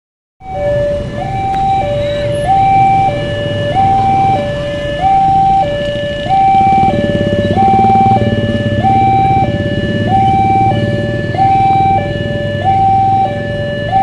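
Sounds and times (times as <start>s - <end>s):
level-crossing two-tone alarm: 0.4s - 14.0s
motorcycle engines running: 0.5s - 14.0s.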